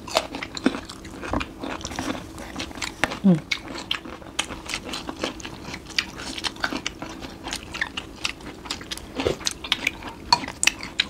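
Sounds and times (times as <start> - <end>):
people chewing and smacking: 0.0 - 11.0.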